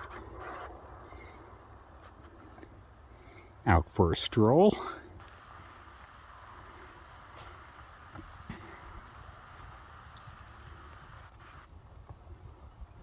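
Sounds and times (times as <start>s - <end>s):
crickets chirping: 0.0s - 3.7s, 4.4s - 13.0s.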